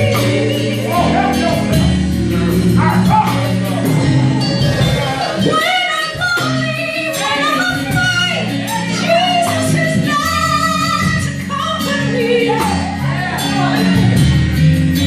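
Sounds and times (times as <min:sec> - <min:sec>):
band playing chords and bass: 0:00.0 - 0:15.0.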